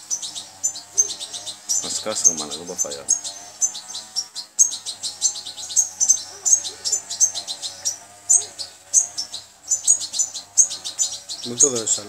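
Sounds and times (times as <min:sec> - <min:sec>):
bird nestling chirping: 0:00.0 - 0:12.0.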